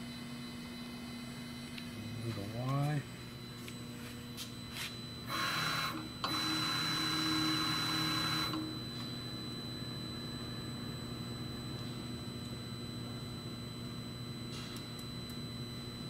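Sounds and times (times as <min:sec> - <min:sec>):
axis drive high whine: 0:00.0 - 0:16.0
machine hum: 0:00.0 - 0:16.0.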